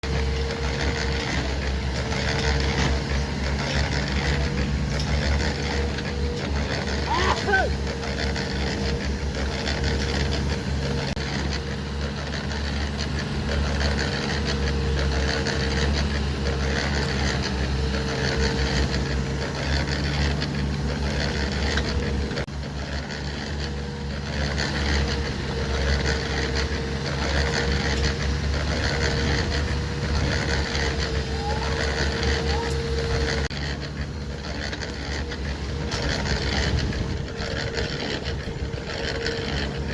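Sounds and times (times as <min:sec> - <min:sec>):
diesel engine droning under load: 0:00.0 - 0:39.9.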